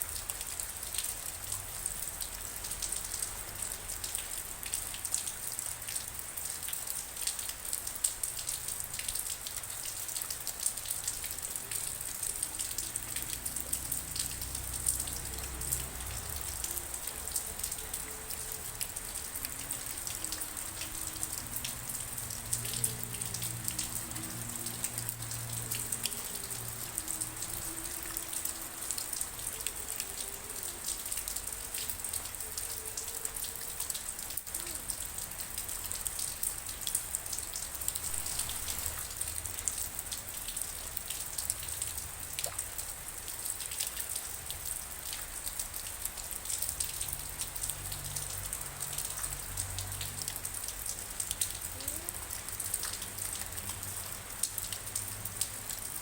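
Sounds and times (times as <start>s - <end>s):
raindrops pattering on surfaces: 0.0s - 56.0s
steady rainfall: 0.0s - 56.0s.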